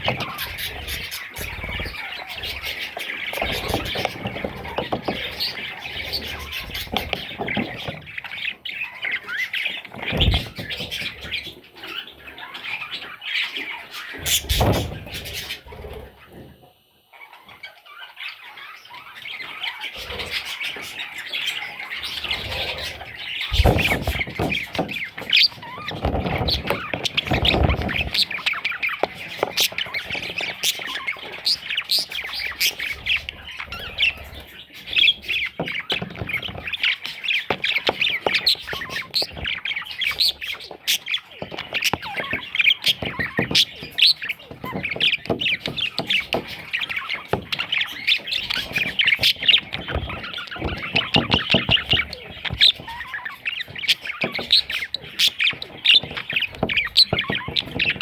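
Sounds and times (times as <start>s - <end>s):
parrots chattering and squawking: 0.0s - 58.0s.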